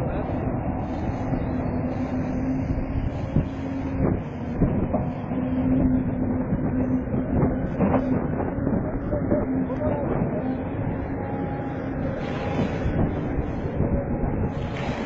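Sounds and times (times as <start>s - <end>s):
excavator engine hum: 0.0s - 15.0s.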